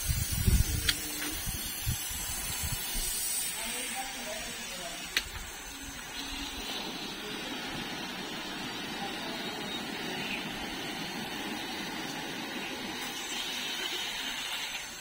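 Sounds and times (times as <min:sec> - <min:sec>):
hose water spraying on concrete: 0:00.0 - 0:15.0.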